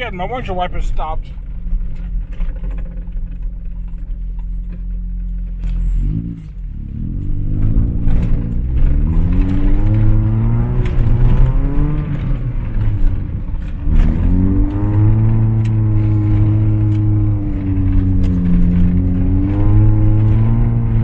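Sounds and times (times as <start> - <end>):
pickup engine accelerating: 0.0 - 21.0.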